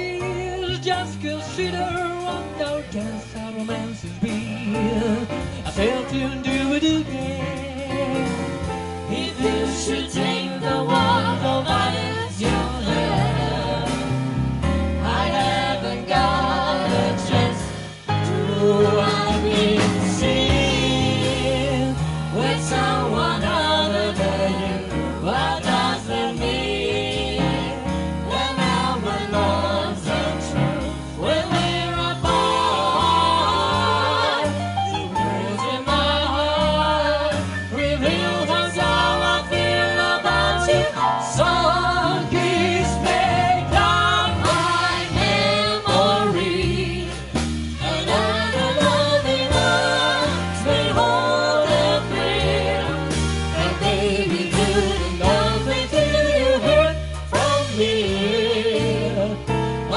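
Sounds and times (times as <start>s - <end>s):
jazz band playing: 0.0s - 59.9s
stepping bass notes: 0.0s - 59.9s.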